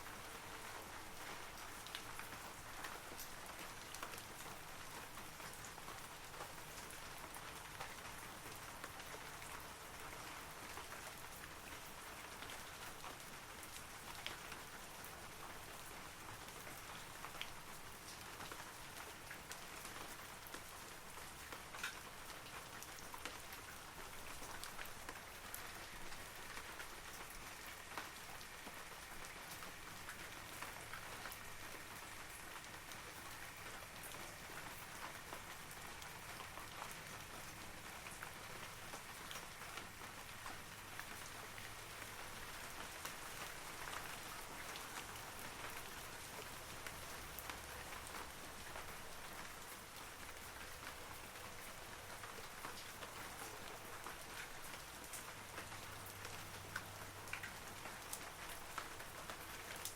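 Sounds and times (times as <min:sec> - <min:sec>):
rain falling on trees: 0:00.0 - 0:59.9.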